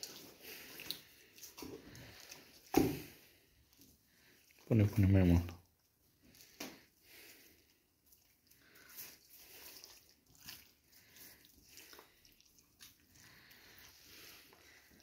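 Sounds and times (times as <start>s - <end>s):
wet squishing of raw chicken: 0.0s - 15.0s.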